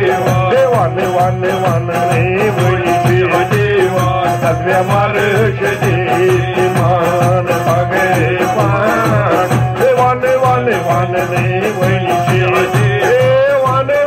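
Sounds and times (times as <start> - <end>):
instrumental devotional music: 0.0 - 14.0.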